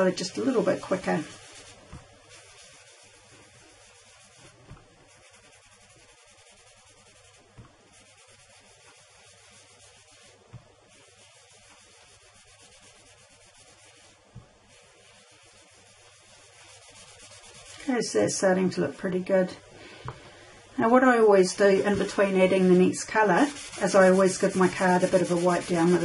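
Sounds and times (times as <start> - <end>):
sponge rubbing on cardstock: 0.0 - 18.4, 21.4 - 26.0.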